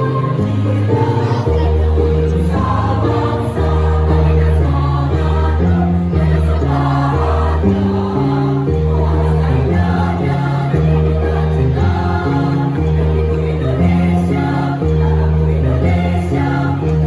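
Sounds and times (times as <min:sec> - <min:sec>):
choir singing in harmony: 0:00.0 - 0:17.0.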